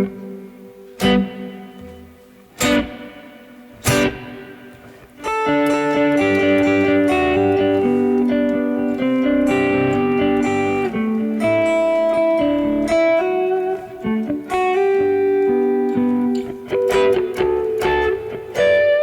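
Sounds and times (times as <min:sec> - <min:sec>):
electric guitar with reverb: 0:00.0 - 0:19.0.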